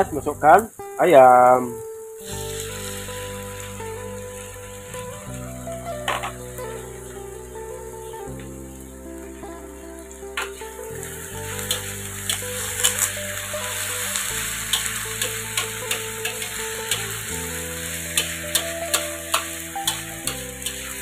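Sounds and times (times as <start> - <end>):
chicken sizzling in a wok: 0.0 - 21.0
metal utensil scraping wok: 2.2 - 21.0.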